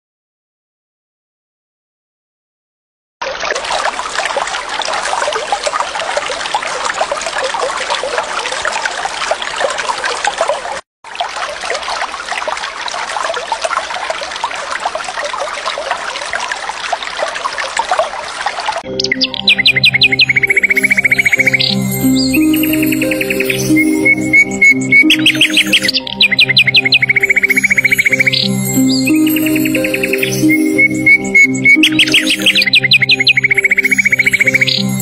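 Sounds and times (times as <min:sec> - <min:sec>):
stream water babbling: 0:03.2 - 0:35.0.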